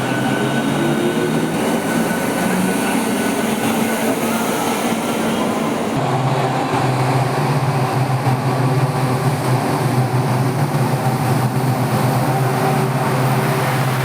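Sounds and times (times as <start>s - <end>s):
electric train hum: 0.0s - 14.0s
rushing rail noise: 0.0s - 14.0s.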